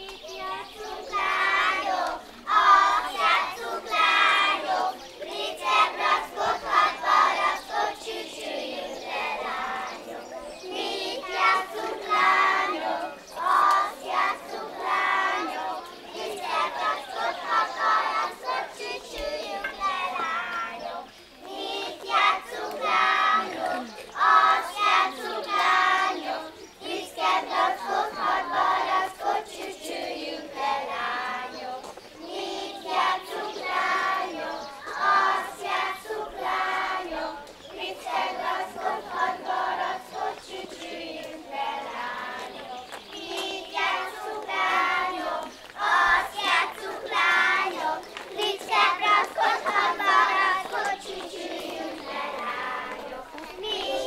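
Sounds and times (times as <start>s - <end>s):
children singing: 0.0s - 54.0s.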